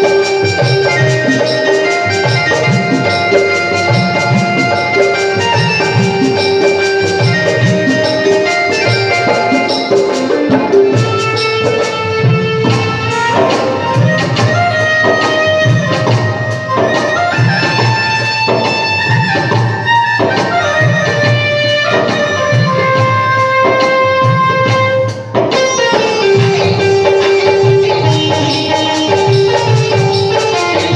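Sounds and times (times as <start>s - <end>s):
hand drum beat: 0.0s - 30.9s
instrumental melody of held notes: 0.0s - 30.9s.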